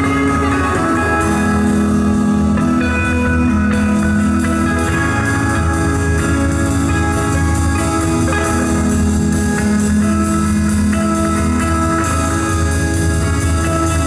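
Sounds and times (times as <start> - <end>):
instrumental rock band playing: 0.0 - 14.0.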